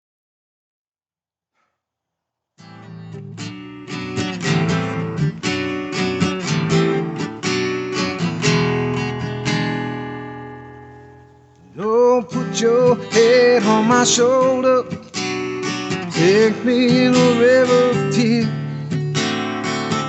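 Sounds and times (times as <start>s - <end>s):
acoustic guitar strumming: 2.6s - 20.0s.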